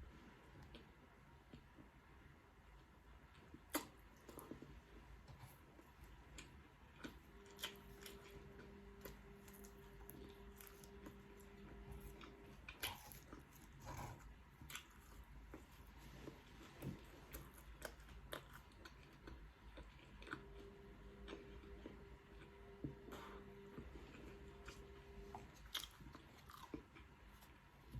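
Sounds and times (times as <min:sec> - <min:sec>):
chewing and biting food: 0:02.8 - 0:27.6.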